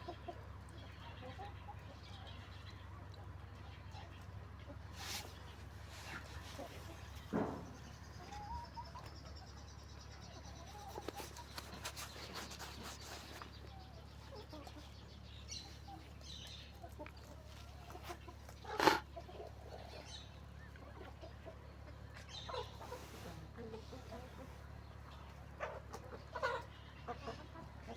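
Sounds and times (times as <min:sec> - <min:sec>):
farm animals calling: 0:00.0 - 0:27.9.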